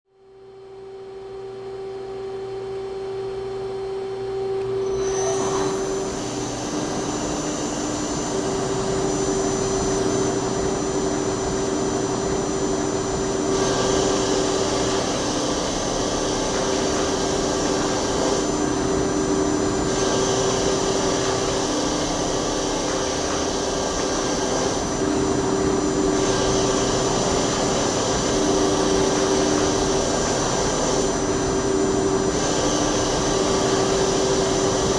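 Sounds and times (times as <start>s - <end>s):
lathe spindle whine: 1.8s - 34.9s
hissing metal cutting noise: 4.8s - 34.9s.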